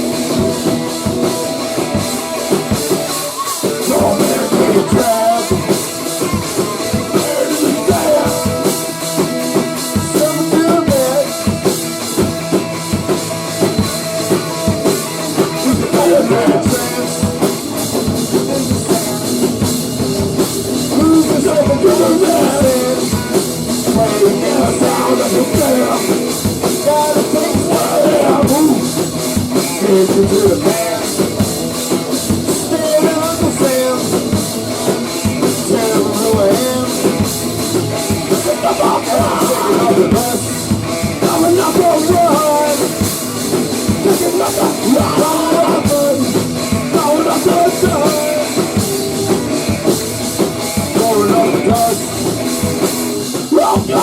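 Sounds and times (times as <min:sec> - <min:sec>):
drum kit pounding: 0:00.0 - 0:54.0
rock band playing loudly: 0:00.0 - 0:54.0.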